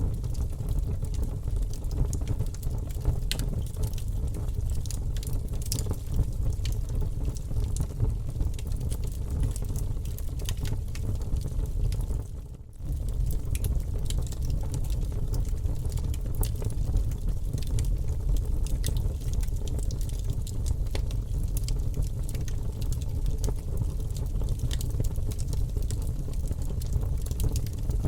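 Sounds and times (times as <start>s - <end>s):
low fire rumble: 0.0s - 28.0s
campfire crackling and popping: 0.2s - 28.0s.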